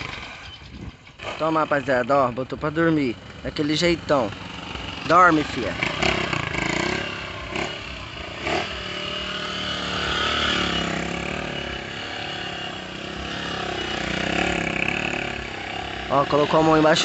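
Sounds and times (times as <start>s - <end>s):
small motorcycle engine revving: 0.0s - 17.0s.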